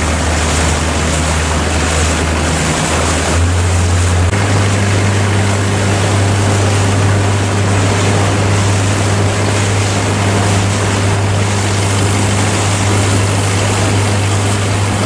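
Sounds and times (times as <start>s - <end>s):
boat engine humming: 0.0s - 15.0s
water wash: 0.0s - 15.0s.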